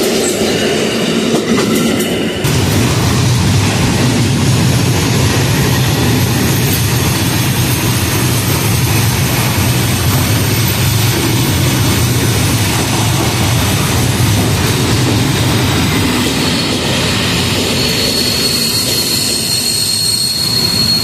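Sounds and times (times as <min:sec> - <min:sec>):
electric locomotive droning: 0:00.0 - 0:21.0.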